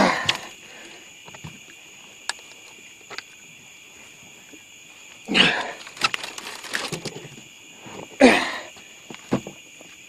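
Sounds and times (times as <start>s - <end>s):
night insects chirring: 0.0s - 10.0s.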